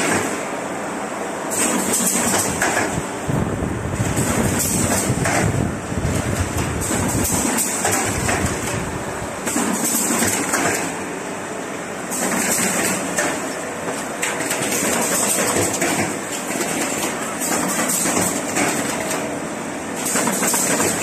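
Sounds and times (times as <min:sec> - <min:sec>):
machine running with knocks: 0:00.0 - 0:00.5, 0:01.5 - 0:11.2, 0:12.1 - 0:19.4, 0:20.0 - 0:21.0.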